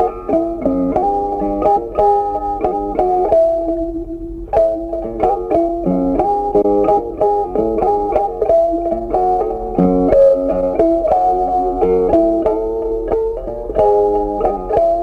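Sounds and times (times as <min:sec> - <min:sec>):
plucked guitar melody: 0:00.0 - 0:15.0.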